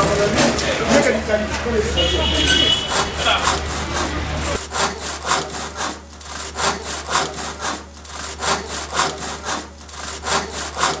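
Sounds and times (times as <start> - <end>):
hand saw cutting wood: 0.0 - 1.3, 2.7 - 11.0.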